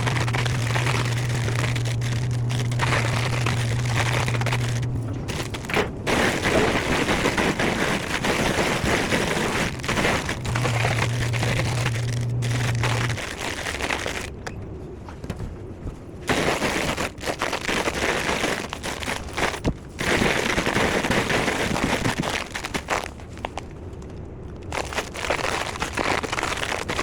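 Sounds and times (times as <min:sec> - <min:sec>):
plastic bags crinkling: 0:00.0 - 0:14.5, 0:16.3 - 0:23.7, 0:24.6 - 0:27.0
steady low hum: 0:00.0 - 0:27.0.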